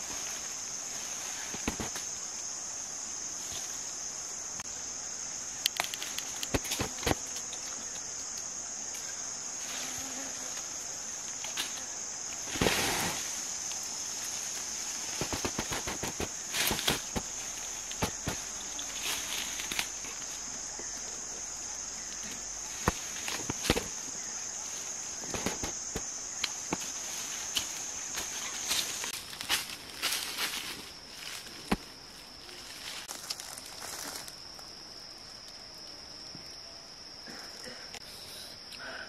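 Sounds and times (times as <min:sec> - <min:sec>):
rustling of dry leaves and twigs: 0:00.0 - 0:35.8
insects trilling: 0:00.0 - 0:39.0.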